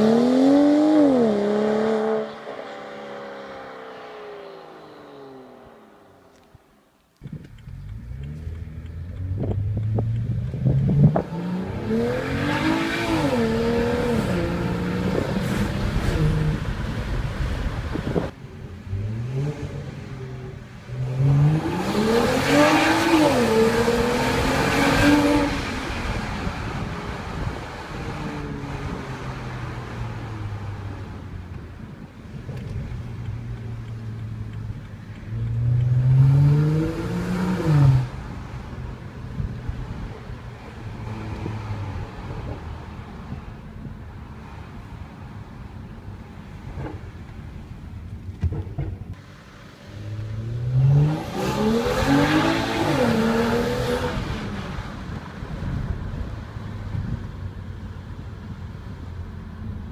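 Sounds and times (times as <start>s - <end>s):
car engine accelerating: 0.0s - 44.8s, 49.1s - 59.9s.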